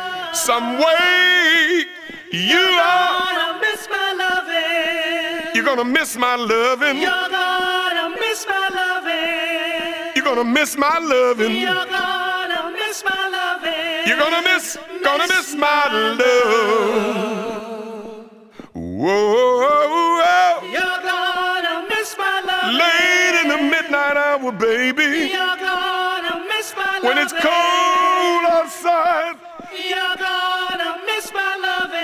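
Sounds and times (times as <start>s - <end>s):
men singing a cappella harmony: 0.0s - 32.0s.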